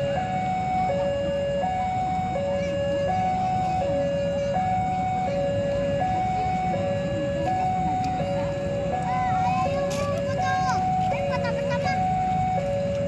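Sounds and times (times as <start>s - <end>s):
level crossing two-tone alarm: 0.0s - 13.0s
train rumble: 0.0s - 13.0s.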